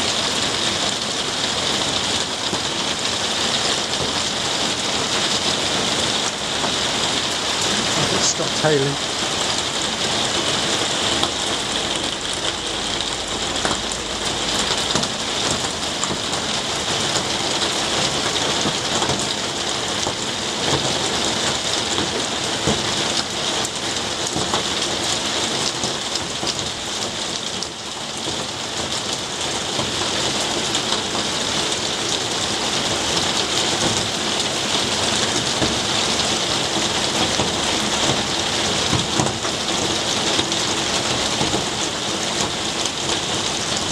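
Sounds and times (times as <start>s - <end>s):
steady rain on foliage and paving: 0.0s - 43.9s.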